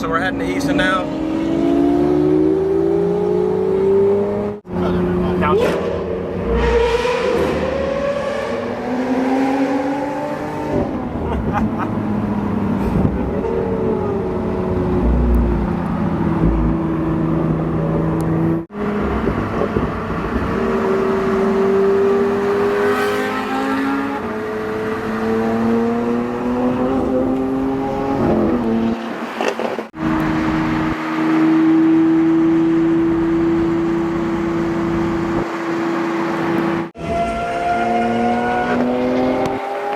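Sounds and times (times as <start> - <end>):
car engines accelerating: 0.0 - 39.9.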